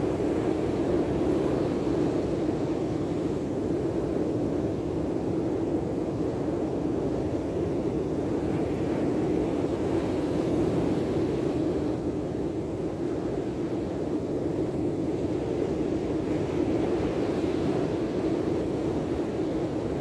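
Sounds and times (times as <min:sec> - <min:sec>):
wind blowing over microphone: 0:00.0 - 0:20.0.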